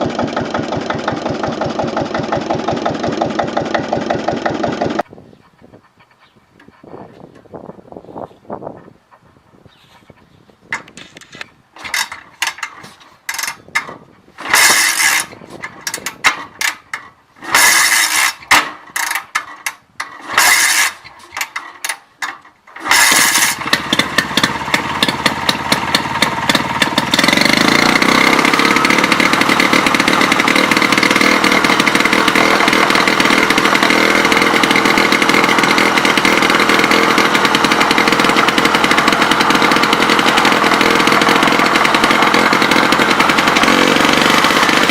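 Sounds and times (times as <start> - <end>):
diesel engine starting and running: 0.0 - 5.1, 10.8 - 44.9.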